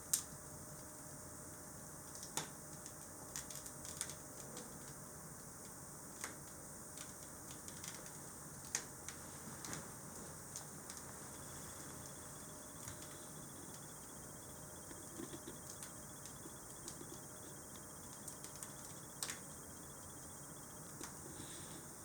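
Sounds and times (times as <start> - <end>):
fire crackling and popping: 0.0 - 1.1, 2.0 - 21.7
faint steady hiss: 0.0 - 22.0.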